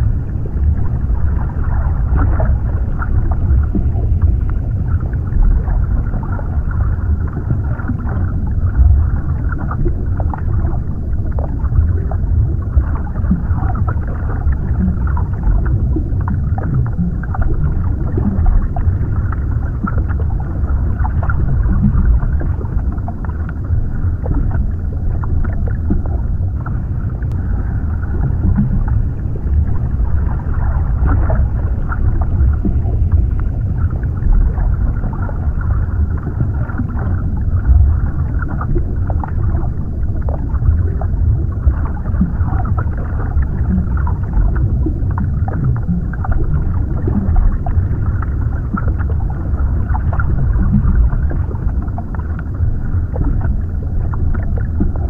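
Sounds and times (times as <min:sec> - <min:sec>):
underwater rumbling wash: 0:00.0 - 0:55.0.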